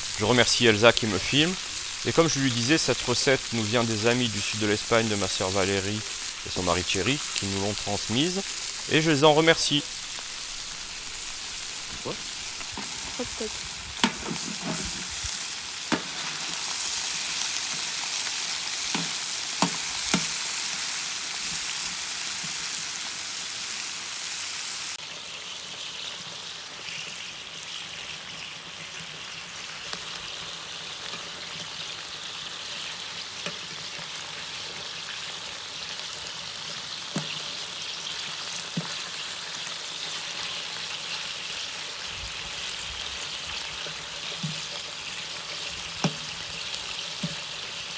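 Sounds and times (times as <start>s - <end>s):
meat sizzling in oil: 0.0s - 47.9s.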